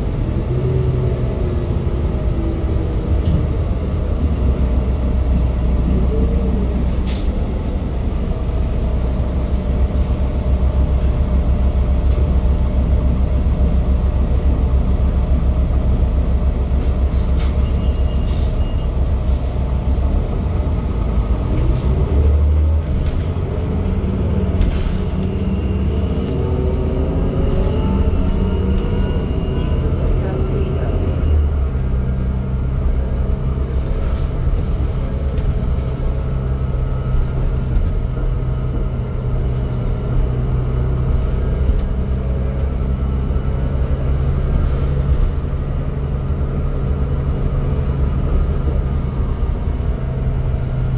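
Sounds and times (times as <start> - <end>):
bus engine rumble: 0.0 - 50.9
road noise: 0.0 - 50.9.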